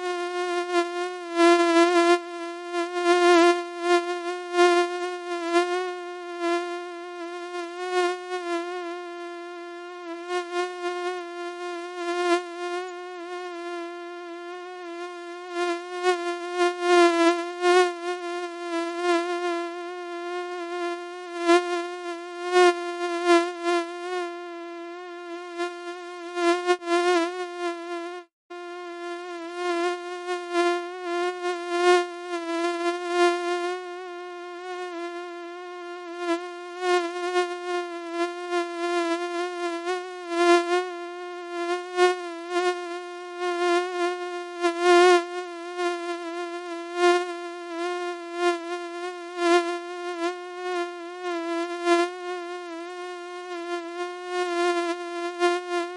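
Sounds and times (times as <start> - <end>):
mosquito buzzing whine: 0.0 - 55.9.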